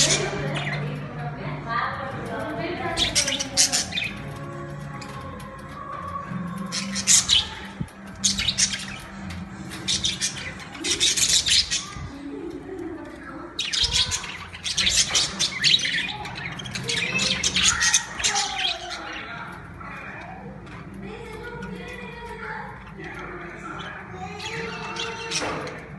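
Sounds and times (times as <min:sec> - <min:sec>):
budgerigars chattering and chirping: 0:00.0 - 0:01.2, 0:02.2 - 0:12.2, 0:13.4 - 0:20.6, 0:21.2 - 0:25.9.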